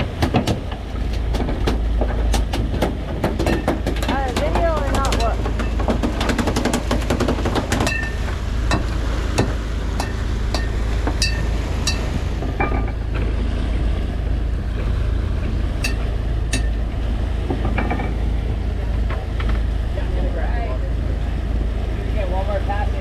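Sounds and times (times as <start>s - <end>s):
boat engine running: 0.0s - 23.0s
wind and water noise: 0.0s - 23.0s.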